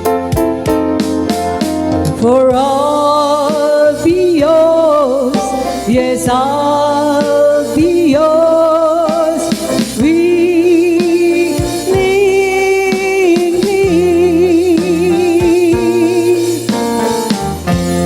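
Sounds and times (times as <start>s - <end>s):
live band playing: 0.0s - 18.0s
woman singing: 2.0s - 17.4s.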